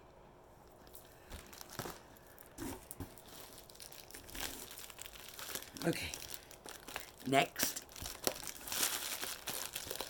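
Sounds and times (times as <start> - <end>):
packing material crinkling: 0.7 - 10.0.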